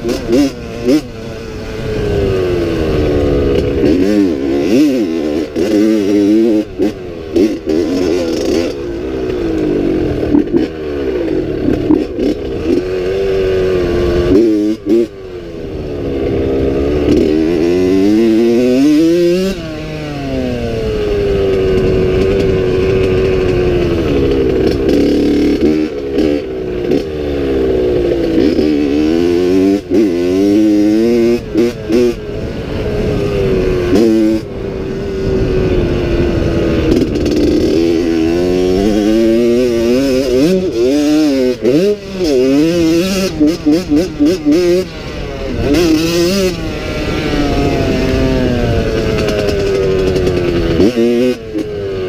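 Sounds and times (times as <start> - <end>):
two-stroke dirt bike engine: 0.0 - 52.0.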